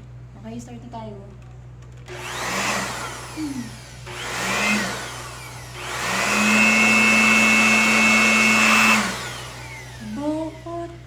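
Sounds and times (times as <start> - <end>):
electric motor whirring whine: 2.1 - 11.0.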